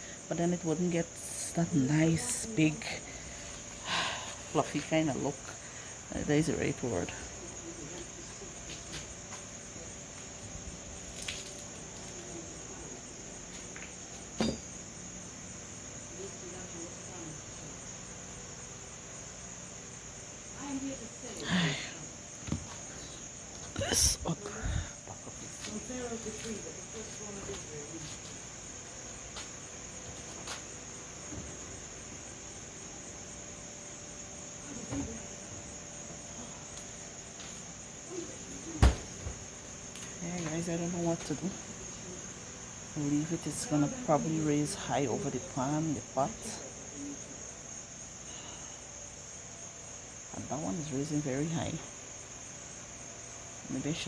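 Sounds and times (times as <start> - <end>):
crickets chirring: 0.0 - 54.0.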